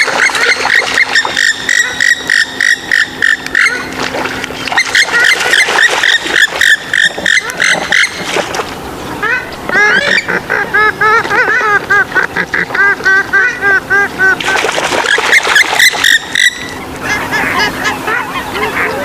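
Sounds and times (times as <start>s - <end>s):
waterbird calls: 0.0s - 19.0s.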